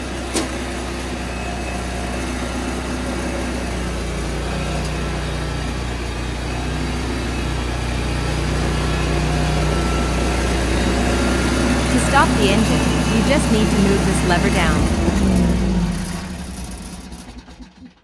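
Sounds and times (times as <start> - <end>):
mower engine running: 0.0 - 18.0.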